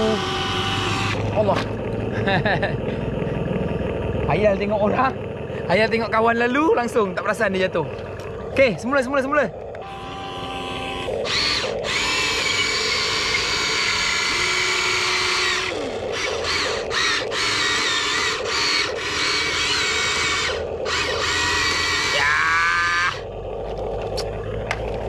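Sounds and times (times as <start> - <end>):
small electric motors whining: 0.0 - 25.0.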